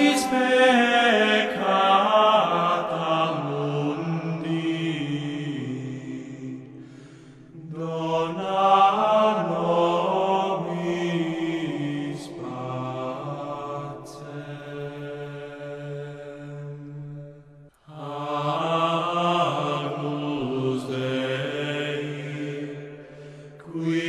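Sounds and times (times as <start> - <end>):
chant-like singing: 0.0 - 24.0.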